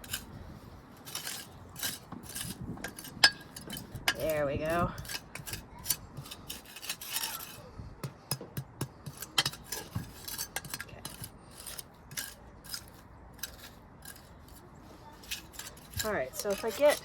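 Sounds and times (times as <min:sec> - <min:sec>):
clicks and scrapes in soil: 0:00.0 - 0:17.0.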